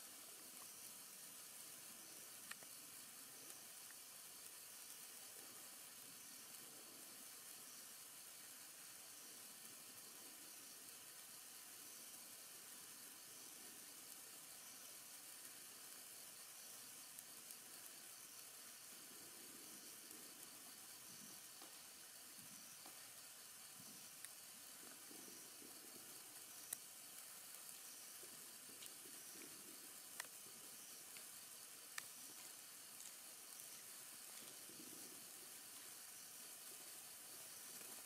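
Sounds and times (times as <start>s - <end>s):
sparkler sizzling and hissing: 0.0s - 38.0s
sparks crackling: 0.0s - 38.0s.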